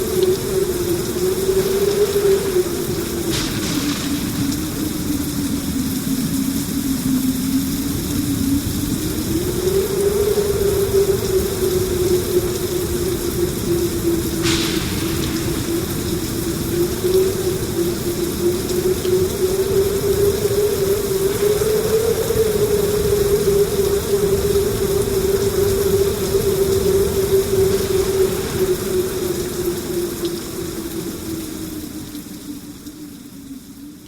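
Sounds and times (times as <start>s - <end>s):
rain hiss: 0.0s - 34.0s.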